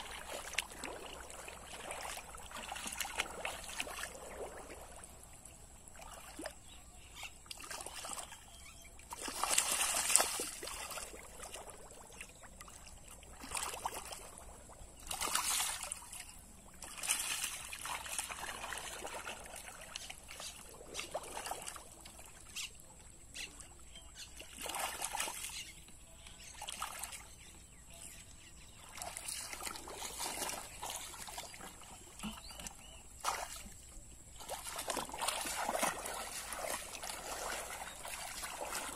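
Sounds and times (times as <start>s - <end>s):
muddy water splashing: 0.0s - 38.9s.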